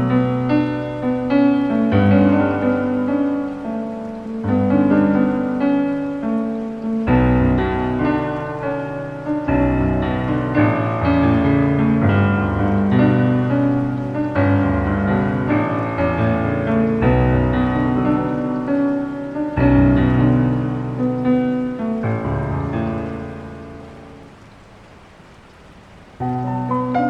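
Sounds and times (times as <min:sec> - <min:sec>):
digital piano chords: 0:00.0 - 0:24.7, 0:26.0 - 0:27.0.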